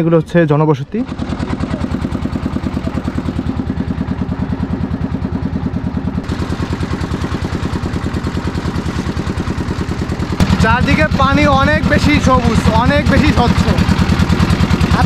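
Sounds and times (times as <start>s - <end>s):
boat engine pulsing: 0.1s - 15.0s.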